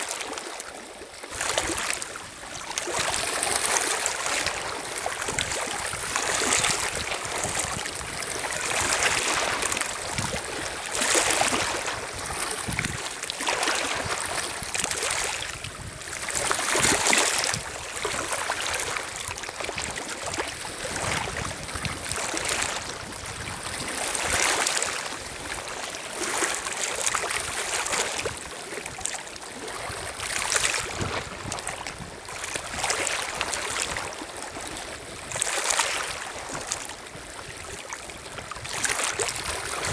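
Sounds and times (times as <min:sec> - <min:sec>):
waves lapping on pebble shore: 0:00.0 - 0:39.9.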